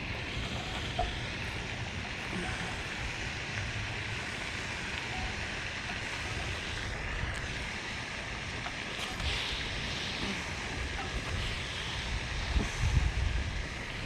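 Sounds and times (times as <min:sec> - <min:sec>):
outdoor hiss: 0:00.0 - 0:14.0
wind buffeting microphone: 0:00.0 - 0:14.0.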